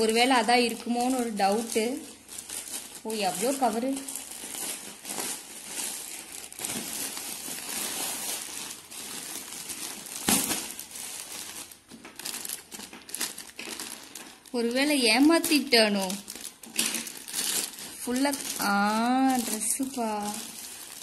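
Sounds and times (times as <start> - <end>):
plastic bags crinkling: 0.0 - 21.0.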